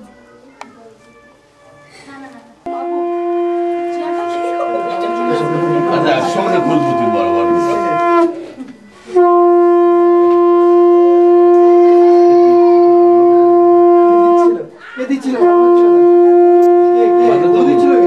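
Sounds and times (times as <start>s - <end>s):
conch shell blasts: 2.7s - 14.8s, 15.4s - 18.0s.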